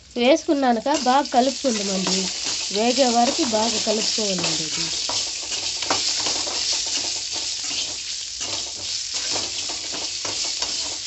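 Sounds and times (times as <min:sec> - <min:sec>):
spices sizzling in hot oil: 0:00.0 - 0:11.0
metal spoon scraping a pan: 0:00.9 - 0:11.0.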